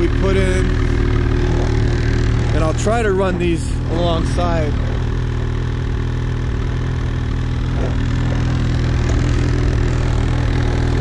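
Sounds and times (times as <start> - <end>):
snowmobile engine idling: 0.0 - 11.0.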